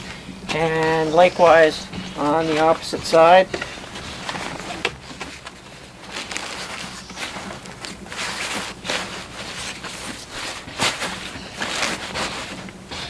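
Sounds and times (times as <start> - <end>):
fabric rustling: 0.0 - 13.0.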